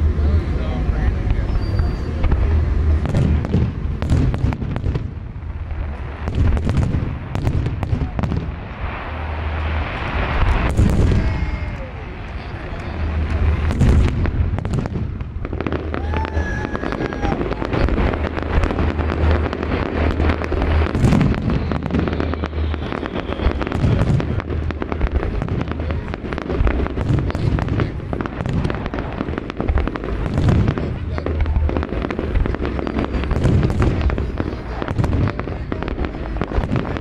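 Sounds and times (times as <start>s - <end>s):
fireworks bursting: 0.0s - 37.0s
fireworks crackling: 0.0s - 37.0s.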